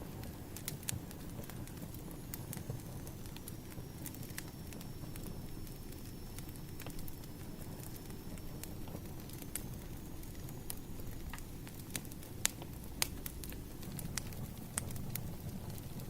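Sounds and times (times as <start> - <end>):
fire low rumble: 0.0 - 16.0
firewood popping and snapping: 0.5 - 16.0.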